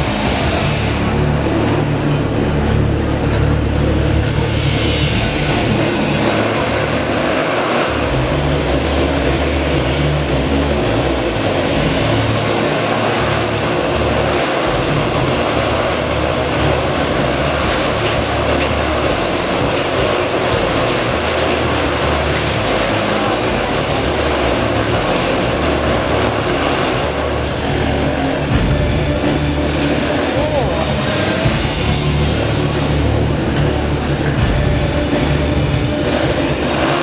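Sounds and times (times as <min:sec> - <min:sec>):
motorcycle engines running: 0:00.0 - 0:37.0.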